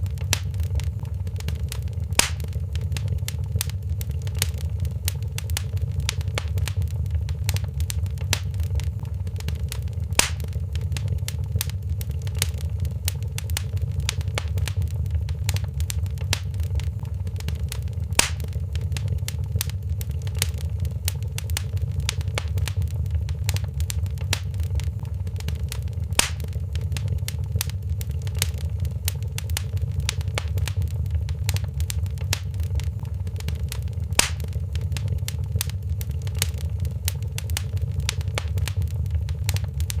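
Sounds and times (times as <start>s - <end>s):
low fire rumble: 0.0s - 40.0s
wood fire crackling: 0.0s - 40.0s
loud fire pop: 0.2s - 20.6s, 21.4s - 40.0s.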